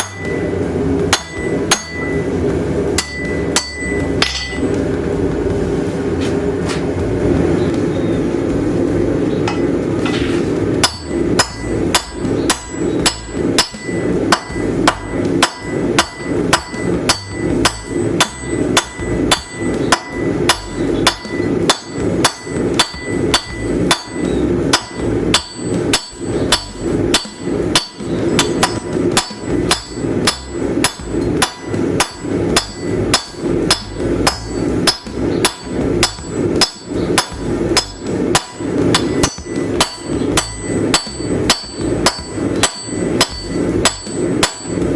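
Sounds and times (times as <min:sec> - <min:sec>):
hammer blows on anvil: 0:00.0 - 0:04.9, 0:09.4 - 0:44.9.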